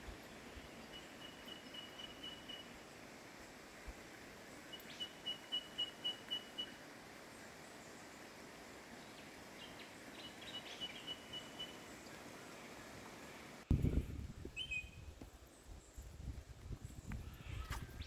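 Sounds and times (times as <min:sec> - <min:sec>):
faint steady bush hiss: 0:00.0 - 0:18.0.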